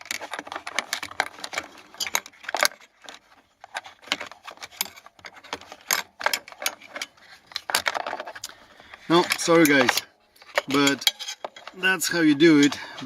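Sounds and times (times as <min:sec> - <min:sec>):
plastic part clicking and rattling: 0:00.0 - 0:13.0.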